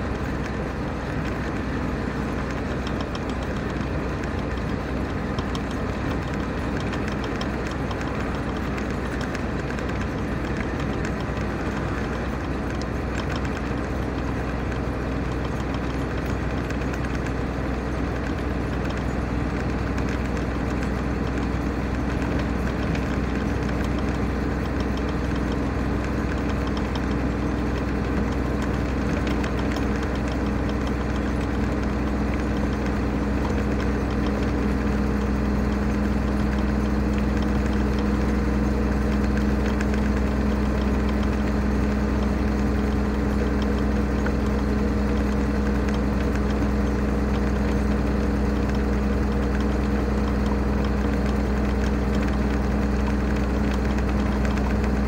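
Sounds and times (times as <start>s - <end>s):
vehicle engine hum: 0.0s - 55.0s.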